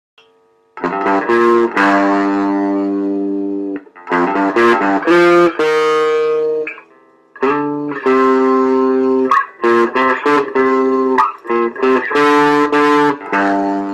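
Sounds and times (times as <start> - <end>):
electric guitar ringing chords: 0.2 - 13.9.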